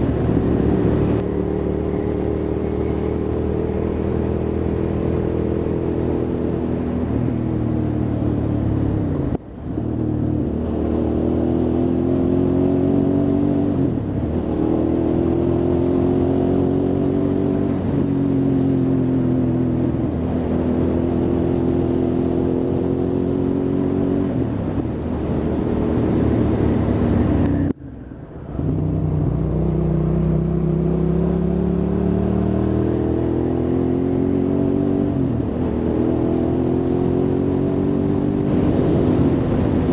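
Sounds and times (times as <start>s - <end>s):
motorcycle engine revving on road: 0.0s - 39.9s.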